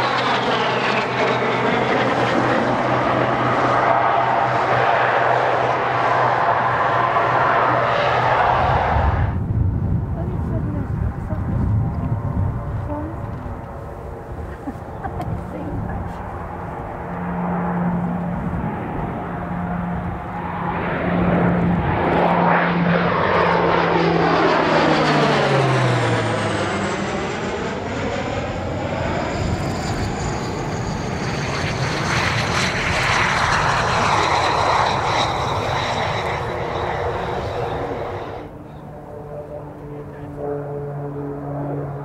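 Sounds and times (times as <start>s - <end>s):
aircraft engine drone: 0.0s - 42.0s.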